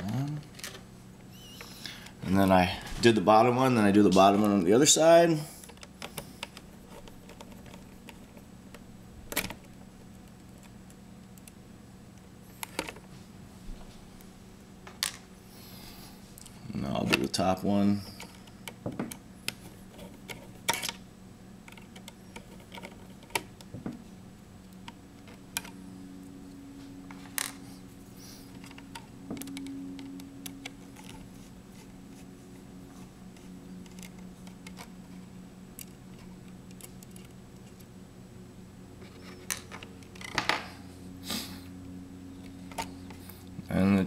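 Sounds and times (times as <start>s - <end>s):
faint steady low hum: 0.0s - 44.0s.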